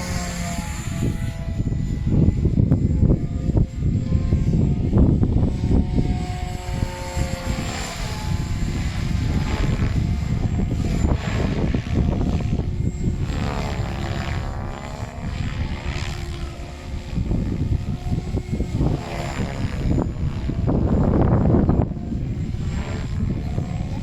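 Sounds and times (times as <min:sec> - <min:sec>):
rc helicopter rotor whine: 0:00.0 - 0:24.0
wind buffeting microphone: 0:00.0 - 0:24.0.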